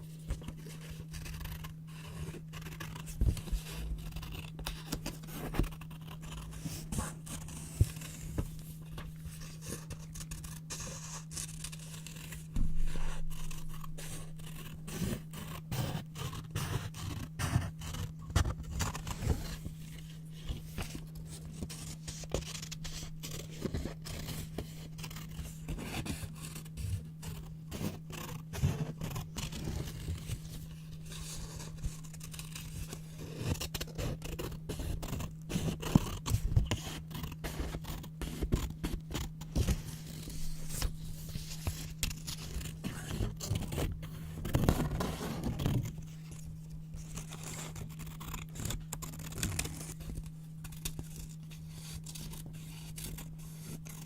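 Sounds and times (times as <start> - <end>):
paper rustling and scraping: 0.0 - 54.0
scissors cutting paper: 0.3 - 8.5, 9.3 - 19.6, 20.4 - 54.0.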